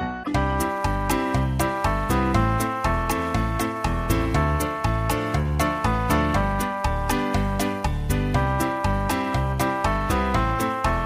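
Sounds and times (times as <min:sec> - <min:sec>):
upbeat music with bass and beat: 0:00.0 - 0:11.0.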